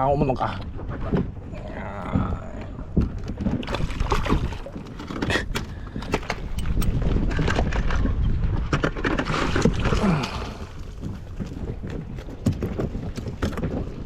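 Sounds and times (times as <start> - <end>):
water against inflatable boat: 0.0 - 14.0
wind on microphone: 0.0 - 14.0
knocks and splashes: 0.6 - 14.0.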